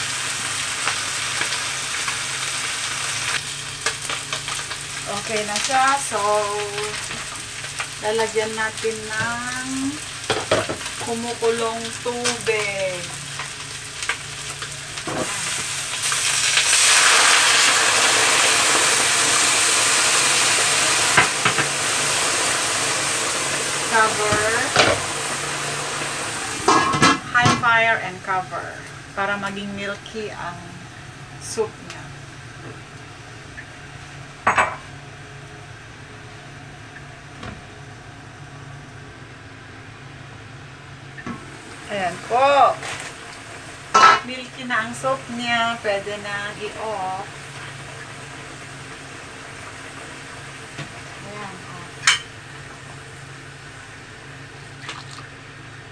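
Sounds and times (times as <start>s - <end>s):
water hissing and sizzling in wok: 0.0s - 55.9s.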